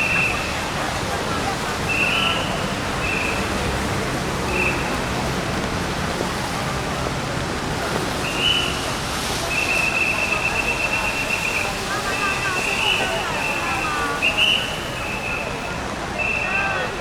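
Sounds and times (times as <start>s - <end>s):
crowd chatter: 0.0s - 17.0s
rain on street: 0.0s - 17.0s.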